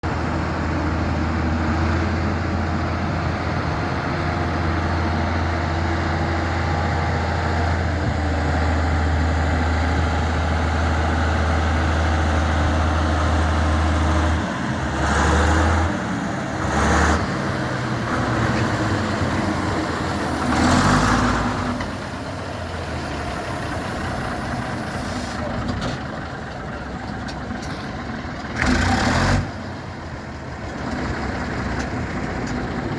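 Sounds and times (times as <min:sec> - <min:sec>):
diesel engine idling: 0:00.0 - 0:32.9.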